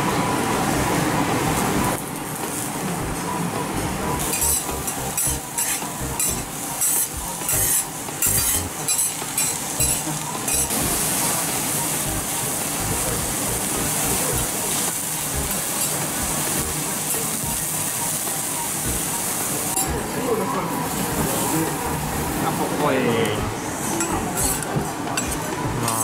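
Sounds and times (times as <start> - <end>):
food sizzling on a griddle: 4.2 - 26.0.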